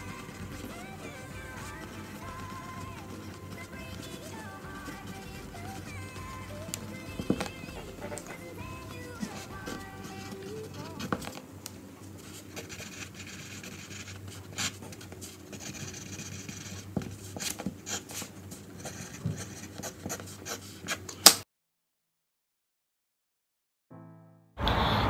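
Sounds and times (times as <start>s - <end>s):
pencil scratching on paper: 0.0s - 11.4s, 12.2s - 21.1s.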